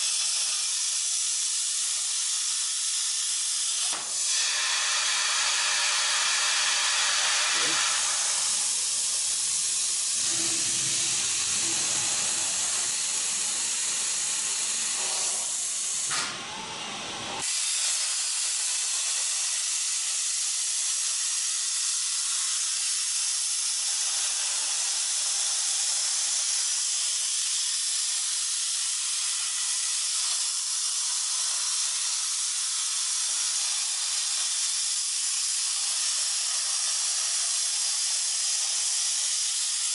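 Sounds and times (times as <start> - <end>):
plasma cutter torch hissing: 0.0 - 39.9.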